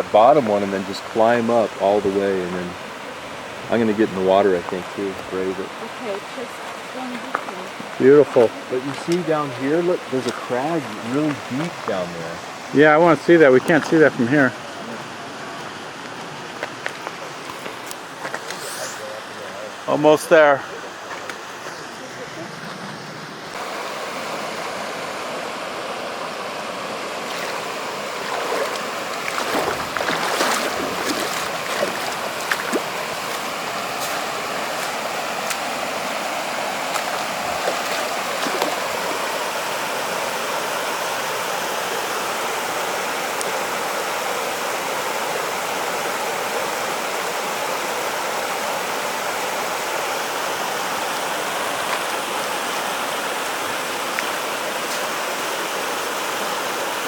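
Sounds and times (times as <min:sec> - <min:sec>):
waterfall rushing over rocks: 0:00.0 - 0:22.5, 0:23.4 - 0:57.0.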